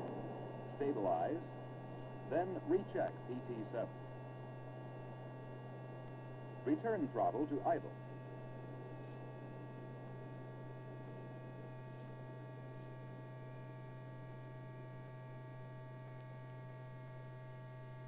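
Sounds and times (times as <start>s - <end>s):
thin steady tones: 0.0s - 16.2s
low electrical hum: 0.0s - 18.0s.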